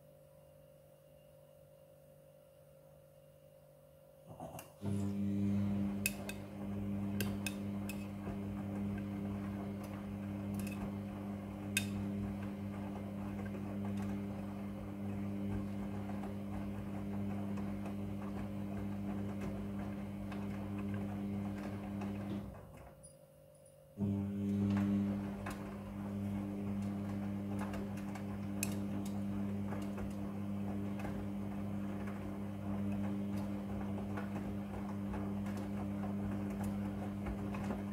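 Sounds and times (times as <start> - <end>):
washing machine drum humming: 4.3 - 23.0, 24.0 - 37.9.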